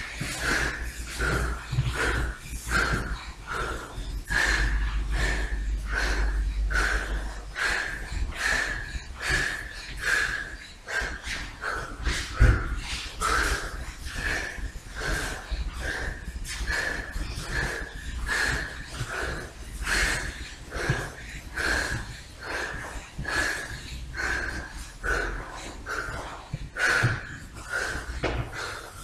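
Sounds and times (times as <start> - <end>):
man's forceful breaths: 0.0 - 29.0.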